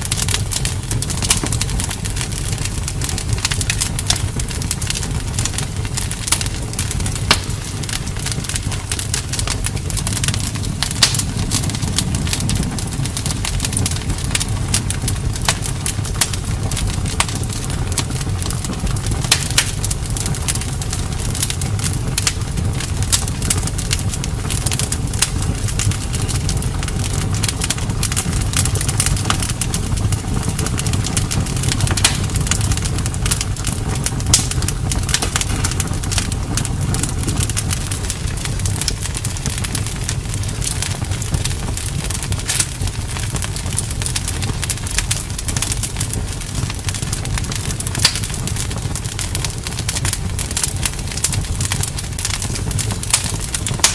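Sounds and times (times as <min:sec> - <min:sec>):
campfire crackling and popping: 0:00.0 - 0:53.9
steady low rumble: 0:00.0 - 0:53.9.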